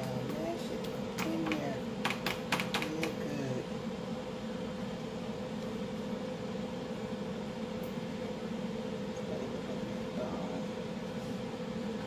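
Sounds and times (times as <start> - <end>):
faint constant tone: 0.0 - 12.0
low mechanical hum: 0.0 - 12.0.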